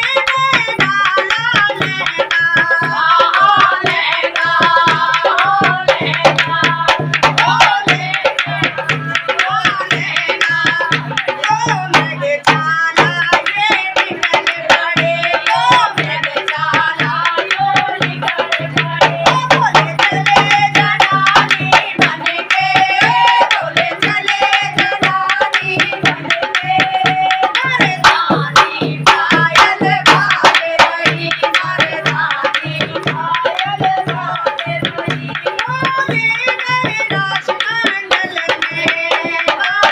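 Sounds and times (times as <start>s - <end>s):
fast hand-drum strokes: 0.0s - 39.9s
woman singing: 0.0s - 39.9s.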